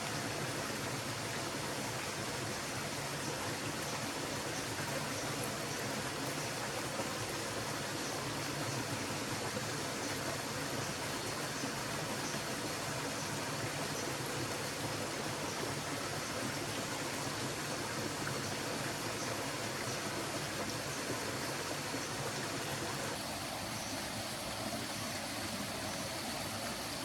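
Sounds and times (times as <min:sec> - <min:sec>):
forest stream babbling: 0:00.0 - 0:27.0.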